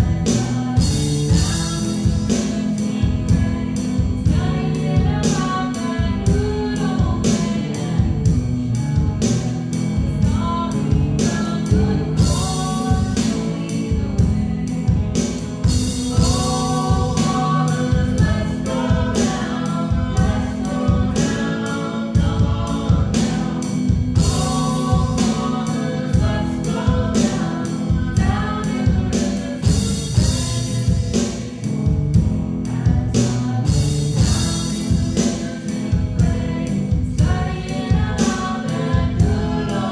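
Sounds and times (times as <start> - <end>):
instrumental accompaniment with beat: 0.0 - 39.9
voices singing a hymn: 0.0 - 39.9.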